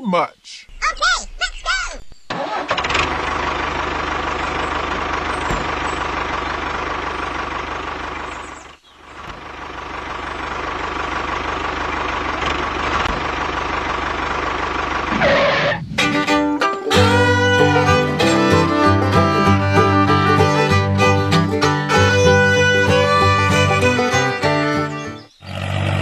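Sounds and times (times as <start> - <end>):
tractor engine running: 0.7 - 26.0.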